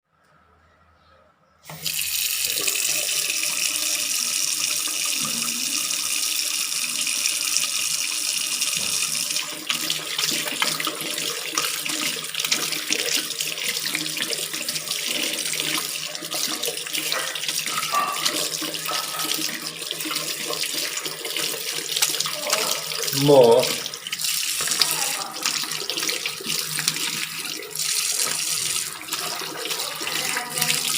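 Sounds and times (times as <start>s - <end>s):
water running from tap: 1.7s - 30.9s.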